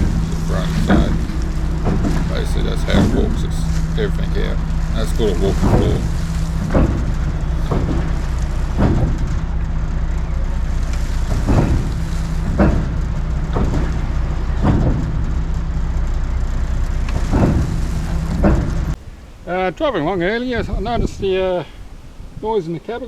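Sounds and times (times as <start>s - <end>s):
floor slats clunking: 0.0s - 19.7s
truck engine running: 0.0s - 23.0s.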